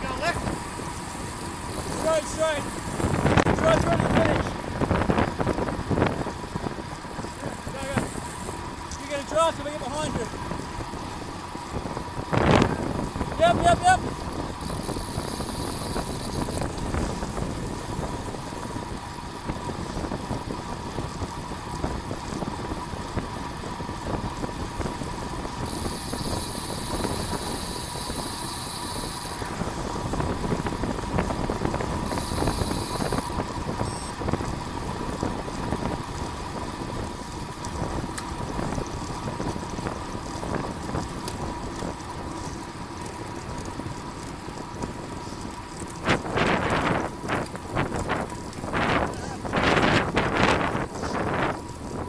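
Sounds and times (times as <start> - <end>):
wind rush: 0.0 - 41.2, 45.2 - 52.0
road rumble: 0.0 - 52.0.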